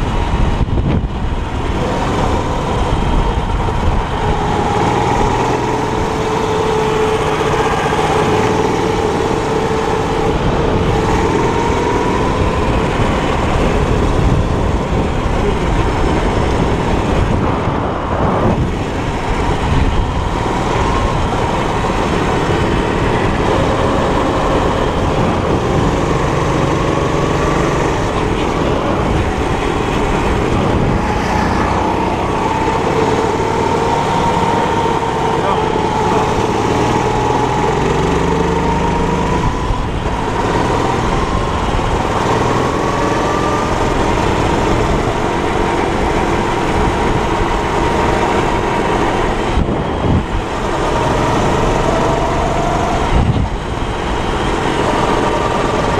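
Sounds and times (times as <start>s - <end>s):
kart engine running hard: 0.0s - 55.9s
wind and track noise: 0.0s - 55.9s.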